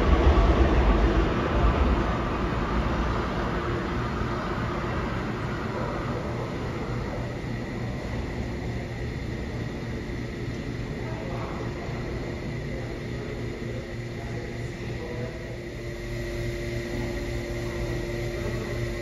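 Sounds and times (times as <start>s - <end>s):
subway train rumbling on rails: 0.0s - 19.0s.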